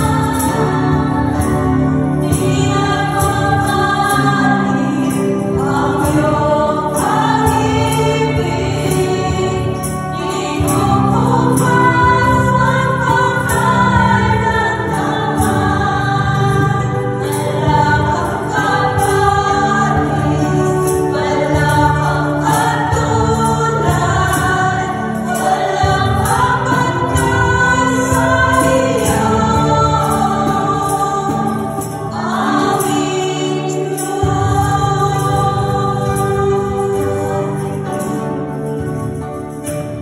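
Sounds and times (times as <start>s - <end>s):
group singing praise song: 0.0s - 38.8s.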